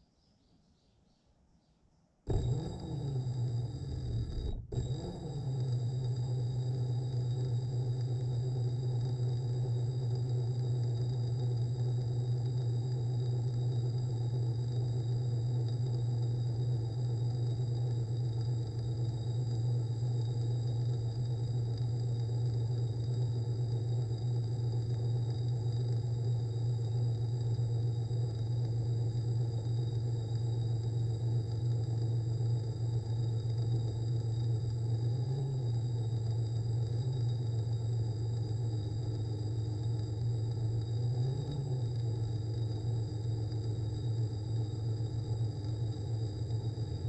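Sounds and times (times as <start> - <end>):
high-pitched whine: 2.3 - 47.0
low motor hum: 2.3 - 47.0.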